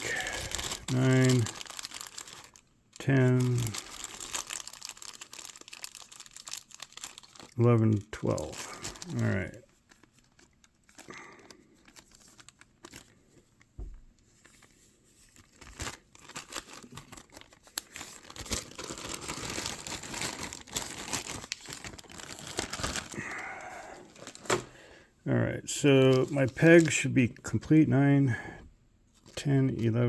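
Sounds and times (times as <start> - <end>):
plastic bag crinkling: 0.0 - 24.8.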